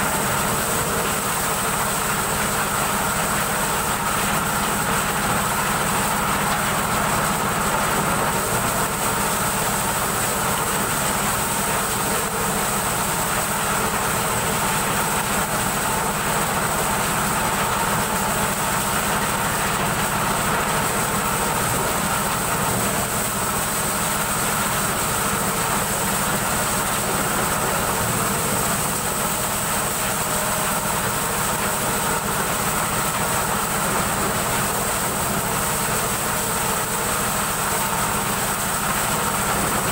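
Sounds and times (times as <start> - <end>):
corn sheller machine running: 0.0 - 39.9.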